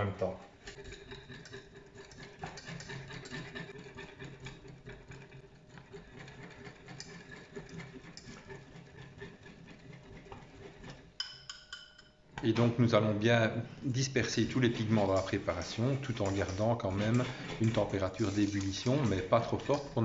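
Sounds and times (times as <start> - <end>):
whisk scraping metal saucepan: 0.0 - 20.0.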